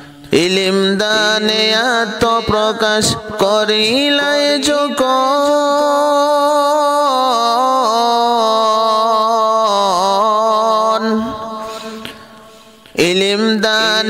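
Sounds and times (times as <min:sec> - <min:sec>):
man singing a long note: 0:00.0 - 0:12.4, 0:13.0 - 0:14.0.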